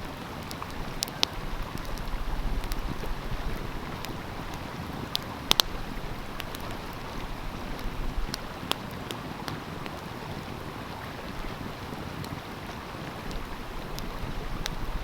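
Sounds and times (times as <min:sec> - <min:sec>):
stream flowing: 0:00.0 - 0:15.0
wood fire crackling and popping: 0:00.0 - 0:15.0.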